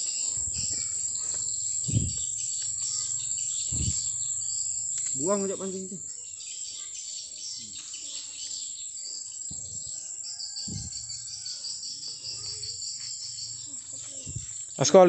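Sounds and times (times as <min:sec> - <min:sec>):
high rapidly pulsing chirp: 0:00.0 - 0:15.0
insects chirping: 0:00.0 - 0:15.0.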